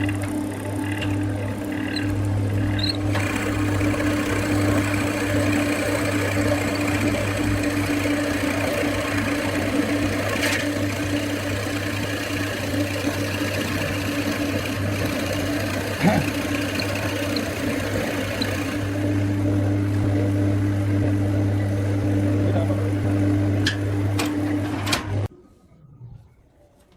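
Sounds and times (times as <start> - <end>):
wood lathe motor hum: 0.0 - 25.2.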